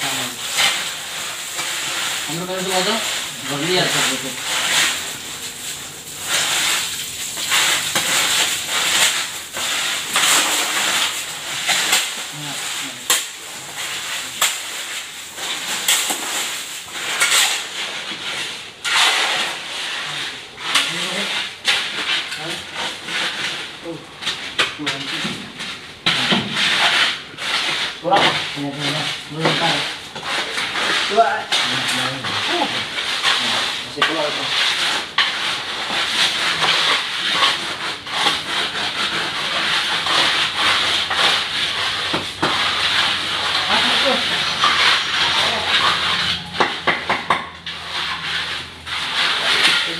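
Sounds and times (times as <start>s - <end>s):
shovels scraping wet concrete: 0.0s - 49.9s.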